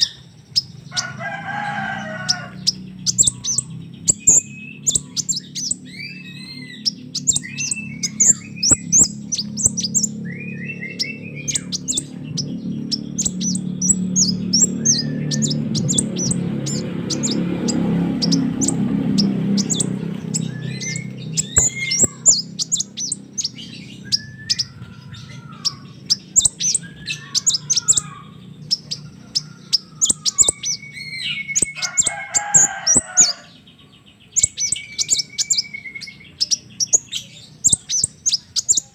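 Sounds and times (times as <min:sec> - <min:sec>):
bird high thin chirps and trills: 0:00.0 - 0:38.9
low rumble: 0:00.1 - 0:31.8.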